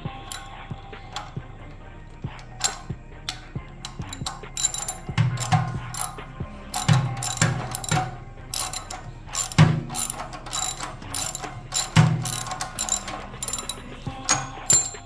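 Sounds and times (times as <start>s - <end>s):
socket ratchet clicking: 0.0s - 15.0s.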